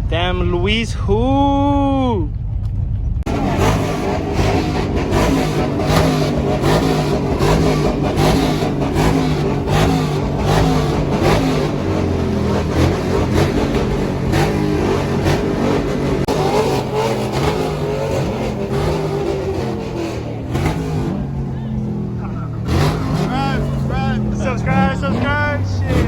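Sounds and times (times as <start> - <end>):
vehicle engines revving: 0.0 - 26.0.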